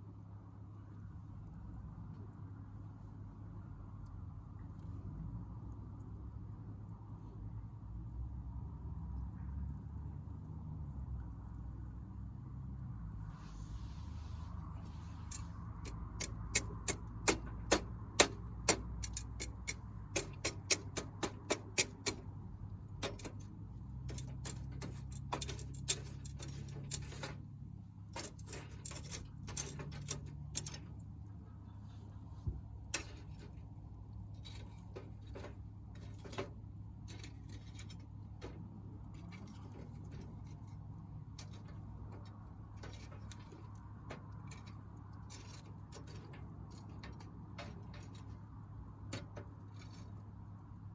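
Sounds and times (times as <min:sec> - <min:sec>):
low steady rumble: 0:00.0 - 0:50.9.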